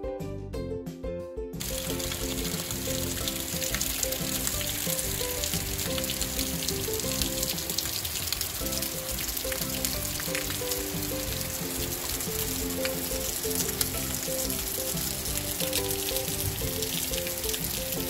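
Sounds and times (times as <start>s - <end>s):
background music: 0.0s - 18.0s
heavy rain on street: 1.6s - 18.0s.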